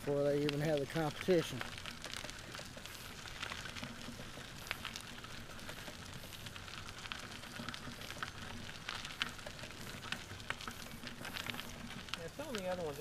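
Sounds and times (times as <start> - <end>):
grit clicking under wheels: 0.0 - 13.0
tyres rolling on gravel: 0.0 - 13.0.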